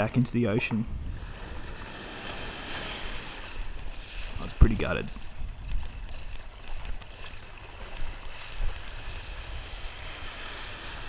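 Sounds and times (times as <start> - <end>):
wind buffeting microphone: 0.0 - 11.0
small waves washing up: 0.9 - 11.0.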